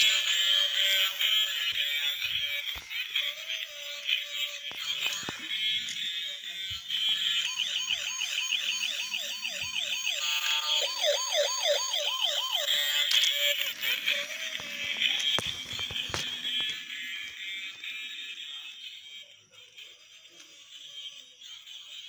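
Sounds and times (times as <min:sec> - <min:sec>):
electronic toy siren warble: 0:03.2 - 0:22.0.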